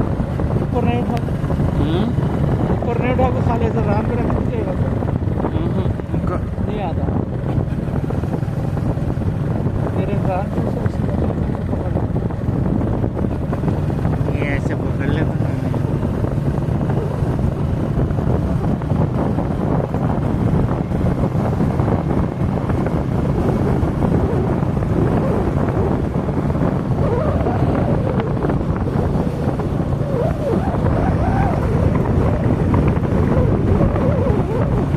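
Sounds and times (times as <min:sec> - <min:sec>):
vehicle engine running: 0:00.0 - 0:34.9
wind rushing over microphone: 0:00.0 - 0:34.9.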